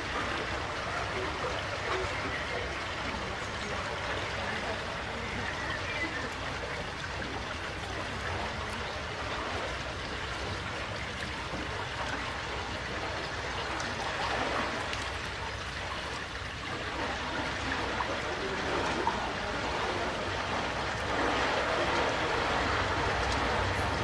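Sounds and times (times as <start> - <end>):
water rushing through sluices: 0.0 - 24.0.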